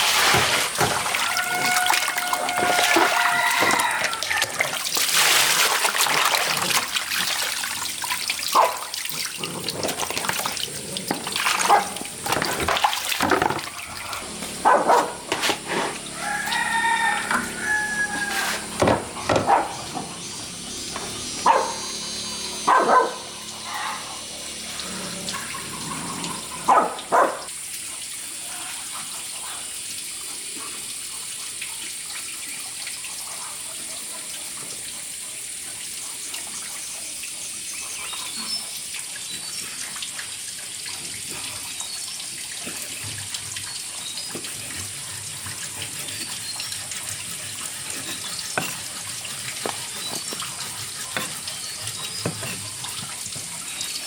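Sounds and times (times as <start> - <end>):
water pouring and splashing: 0.0 - 54.0.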